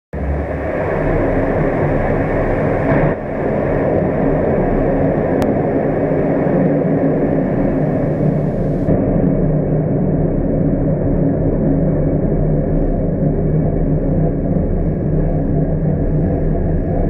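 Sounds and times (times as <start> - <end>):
rocket engine roaring through walls: 0.2 - 17.0.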